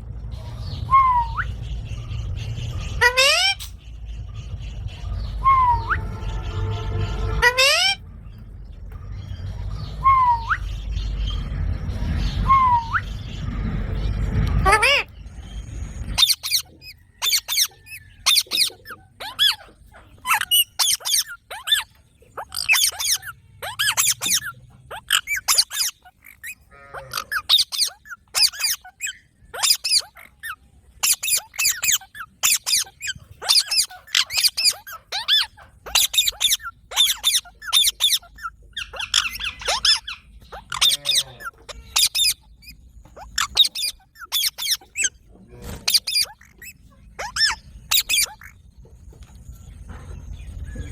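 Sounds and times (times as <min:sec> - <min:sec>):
parrots squawking: 0:00.2 - 0:49.4.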